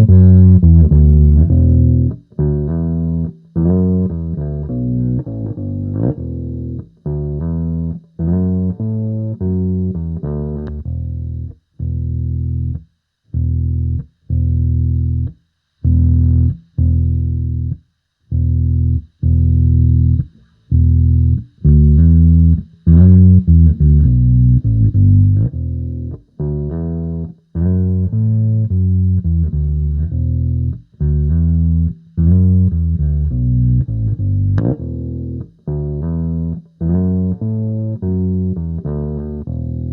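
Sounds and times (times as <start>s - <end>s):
electric bass riff: 0.0s - 39.9s.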